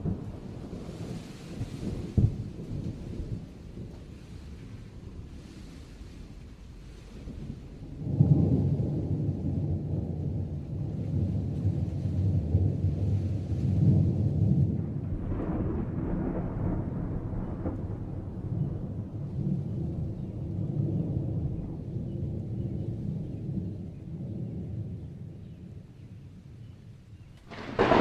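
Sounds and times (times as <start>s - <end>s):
thunder clap: 0.0s - 5.4s, 7.2s - 25.1s, 27.4s - 28.0s
thunder rumbling: 0.0s - 28.0s.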